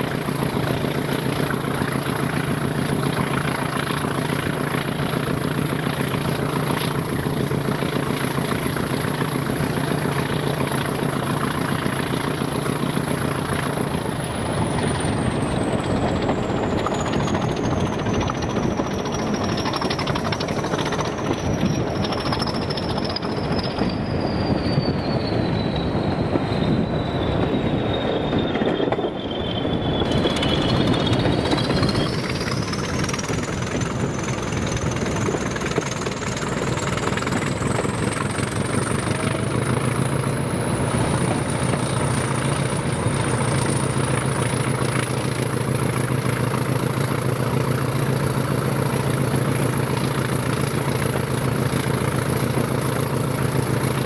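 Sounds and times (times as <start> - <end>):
diesel locomotive high whine: 0.0 - 54.0
low engine note: 0.0 - 54.0.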